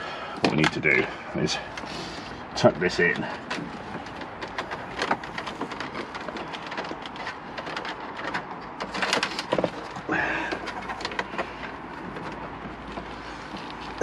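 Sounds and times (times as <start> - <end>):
cable scratching behind plastic trim: 1.7 - 14.0.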